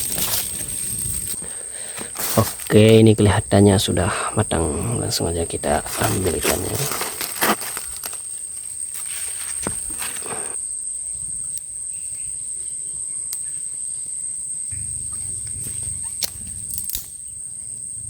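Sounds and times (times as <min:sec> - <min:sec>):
high-pitched insect trill: 0:00.0 - 0:18.0.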